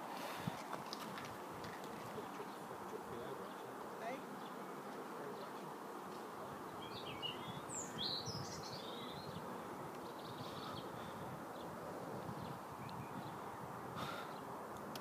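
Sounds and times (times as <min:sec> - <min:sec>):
outdoor background hum: 0:00.0 - 0:15.0
birds chirping: 0:00.9 - 0:15.0.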